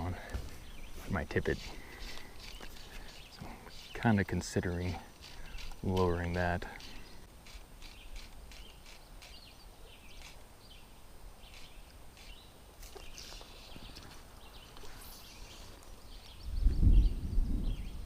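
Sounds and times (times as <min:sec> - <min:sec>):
river-side ambience: 0:00.0 - 0:16.6
small birds chirping: 0:00.0 - 0:18.0.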